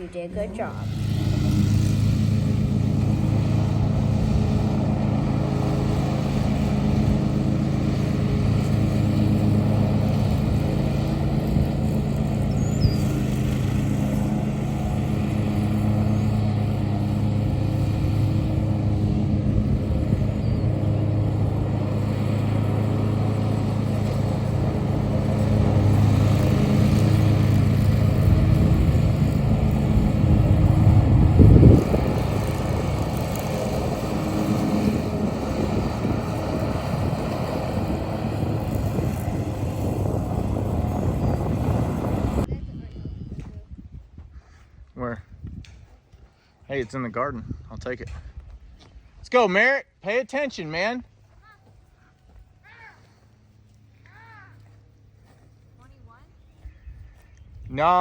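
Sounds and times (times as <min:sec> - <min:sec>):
engine running steadily: 0:00.0 - 0:43.9, 0:50.6 - 0:58.0.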